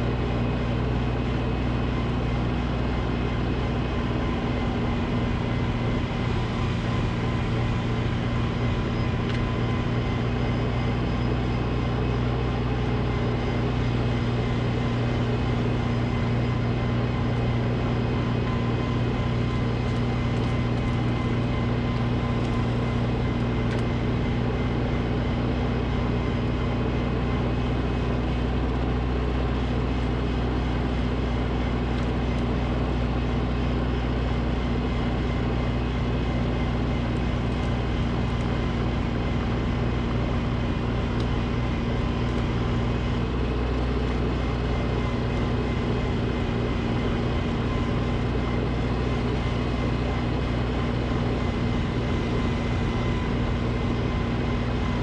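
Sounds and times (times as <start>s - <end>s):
snowblower engine droning: 0.0s - 55.0s.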